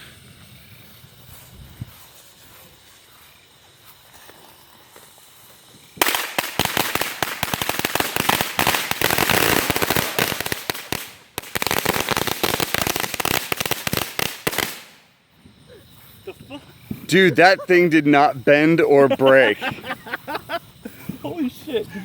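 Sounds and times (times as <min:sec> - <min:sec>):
firecrackers banging: 0:00.2 - 0:21.8.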